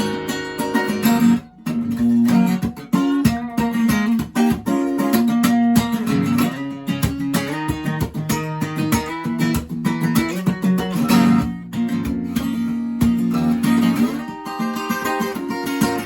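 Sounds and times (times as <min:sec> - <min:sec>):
guitar strumming: 0:00.0 - 0:16.0.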